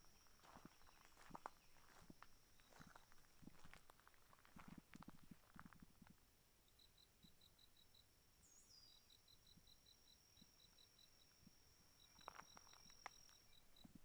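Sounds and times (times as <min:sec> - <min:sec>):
insect chirping: 0:00.0 - 0:04.1, 0:06.6 - 0:14.0.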